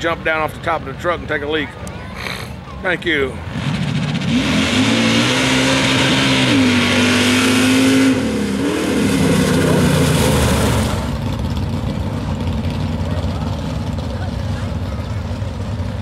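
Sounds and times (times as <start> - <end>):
truck engine at full throttle: 2.2 - 16.0.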